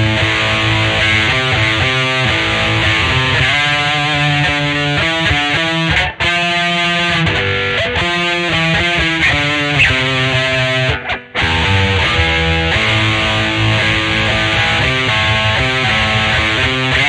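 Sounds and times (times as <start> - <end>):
electric guitar riff: 0.0 - 17.0.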